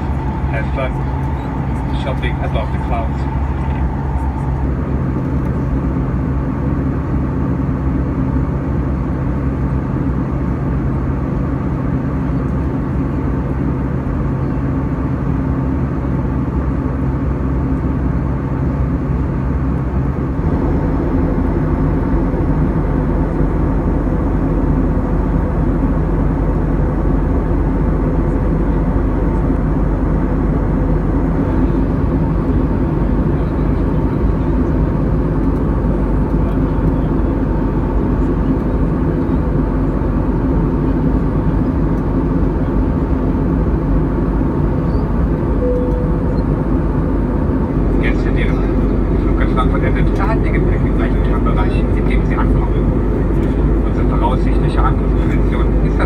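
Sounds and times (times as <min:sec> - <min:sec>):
aircraft cabin drone: 0:00.0 - 0:56.0
low hum: 0:00.0 - 0:56.0.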